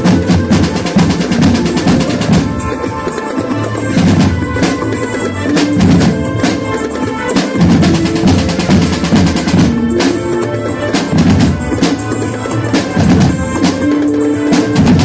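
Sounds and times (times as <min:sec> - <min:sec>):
marching band melody: 0:00.0 - 0:15.0
snare and bass drums: 0:00.0 - 0:15.0.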